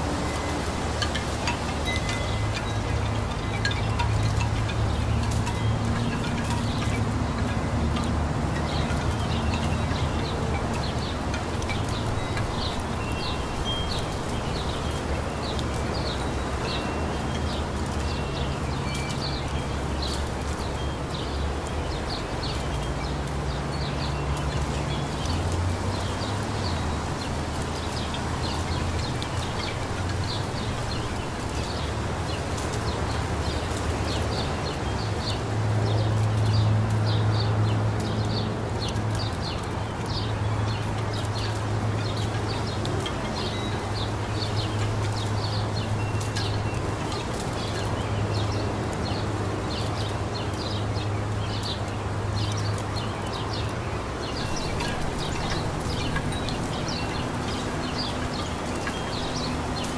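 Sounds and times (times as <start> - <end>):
breeze rustling leaves: 0.0 - 59.9
songbirds chirping: 0.0 - 59.9.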